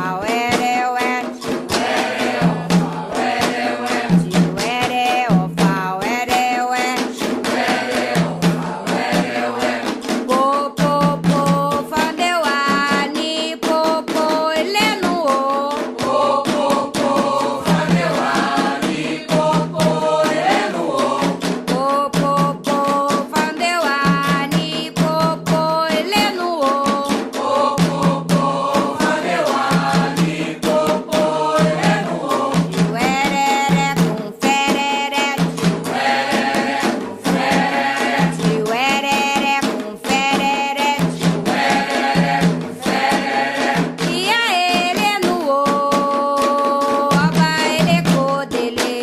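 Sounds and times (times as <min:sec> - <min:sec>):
drums and percussion: 0:00.0 - 0:49.0
voices singing: 0:00.0 - 0:49.0.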